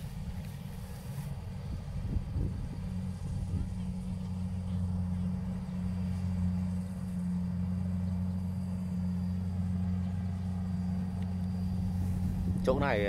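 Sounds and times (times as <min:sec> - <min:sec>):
harvester engine droning: 0:00.0 - 0:13.0.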